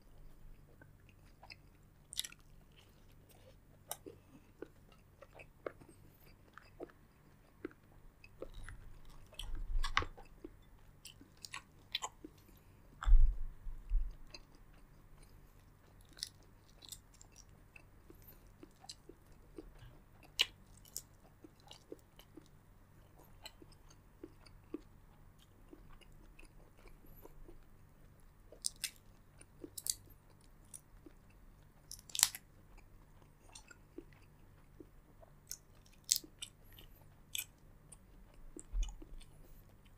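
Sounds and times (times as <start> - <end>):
chewing with sharp clicks: 0.5 - 39.9.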